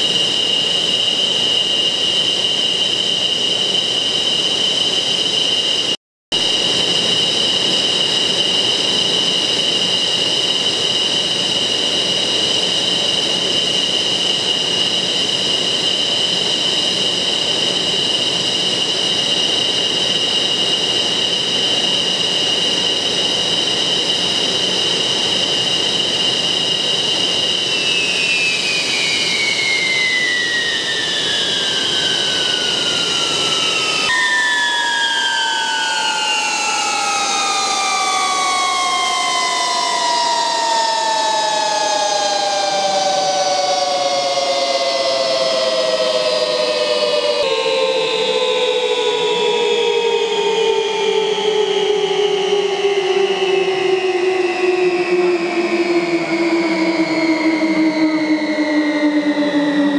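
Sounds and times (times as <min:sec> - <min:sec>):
jet engine high-pitched whine: 0:00.0 - 0:59.9
jet engine rushing noise: 0:00.0 - 0:59.9.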